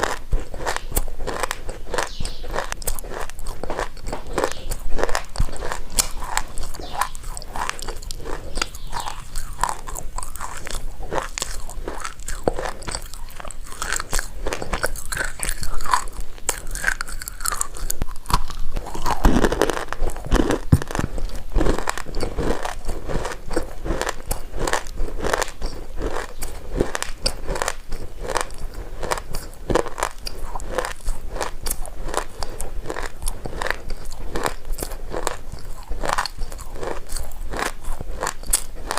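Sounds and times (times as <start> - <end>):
dry crunching of chewing: 0.0 - 38.9.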